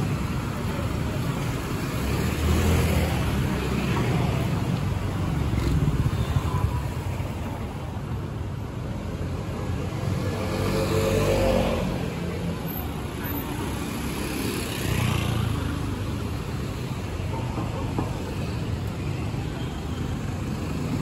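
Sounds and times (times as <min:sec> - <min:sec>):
cars and scooters driving past: 0:00.0 - 0:21.0.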